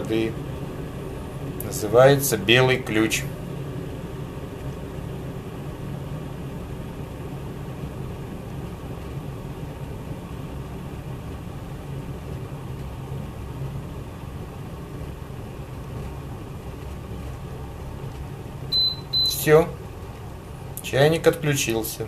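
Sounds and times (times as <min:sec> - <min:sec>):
kettle water boiling: 0:00.0 - 0:22.0.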